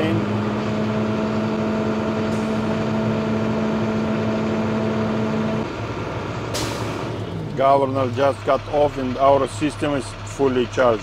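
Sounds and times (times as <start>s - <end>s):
truck diesel engine humming: 0.0s - 11.0s.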